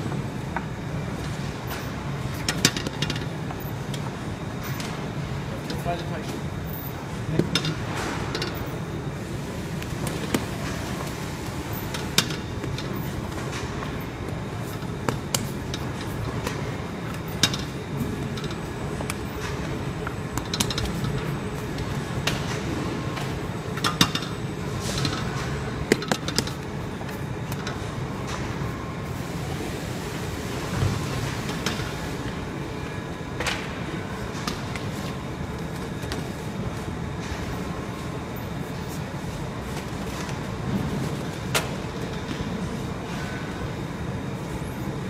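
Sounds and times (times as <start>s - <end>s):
low hum of bakery machinery: 0.0s - 45.0s.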